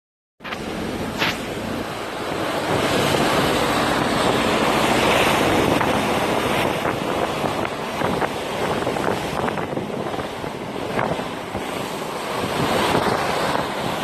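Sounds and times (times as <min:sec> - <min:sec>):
sea rushing: 0:00.4 - 0:14.0
wind buffeting microphone: 0:00.5 - 0:14.0.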